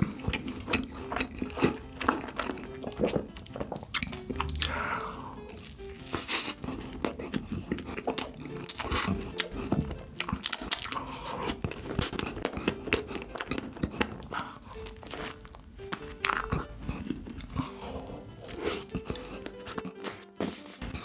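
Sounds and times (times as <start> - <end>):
crunchy chocolate bites: 0.0 - 21.0
person chewing: 0.0 - 21.0.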